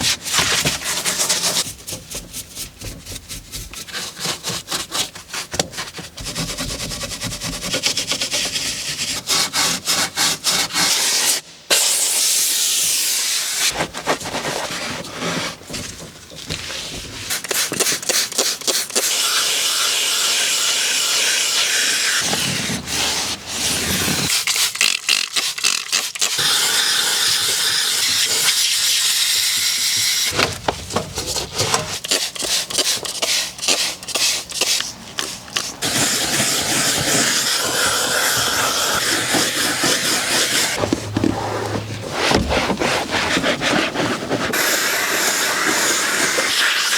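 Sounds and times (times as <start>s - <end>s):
hand brush scrubbing: 0.0s - 11.4s, 16.7s - 46.9s.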